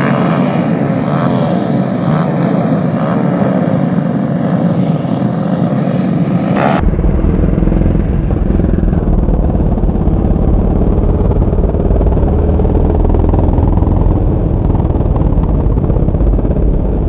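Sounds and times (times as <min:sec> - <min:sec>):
deep engine rumble: 0:00.0 - 0:17.0
motorcycles revving: 0:00.0 - 0:17.0.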